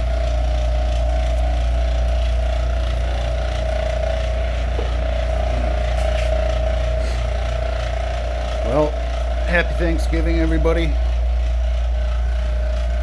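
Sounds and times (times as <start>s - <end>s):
faint regular pulsing: 0.0s - 13.0s
machine humming with whine: 0.0s - 13.0s.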